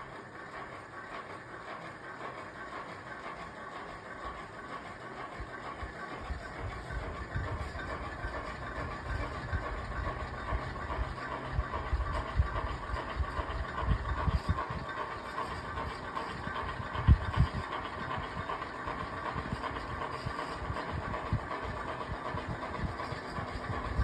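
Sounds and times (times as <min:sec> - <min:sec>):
electric fan whirring hum: 0:00.0 - 0:24.0.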